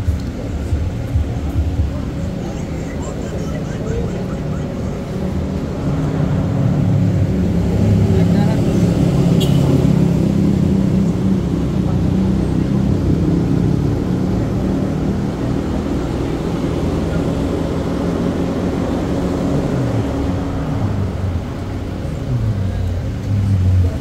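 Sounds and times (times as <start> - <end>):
street traffic noise: 0.0 - 24.0
vehicle engine running: 0.0 - 24.0.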